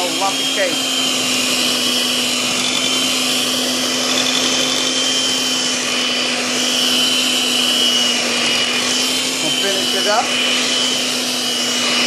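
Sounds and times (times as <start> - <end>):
electric hand mixer whining: 0.0 - 12.0.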